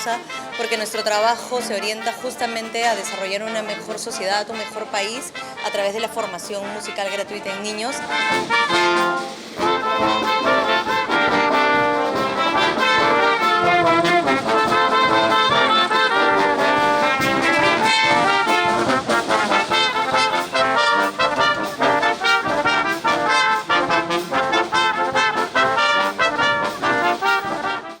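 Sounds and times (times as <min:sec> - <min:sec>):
orchestra with brass playing: 0:00.0 - 0:28.0.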